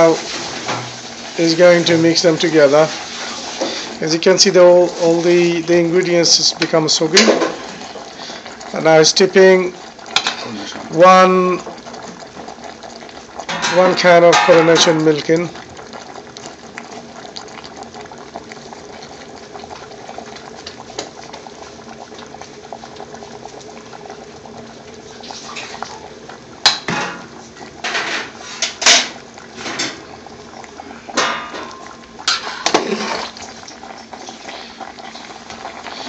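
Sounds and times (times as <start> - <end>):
pot bubbling at a boil: 0.0 - 36.0.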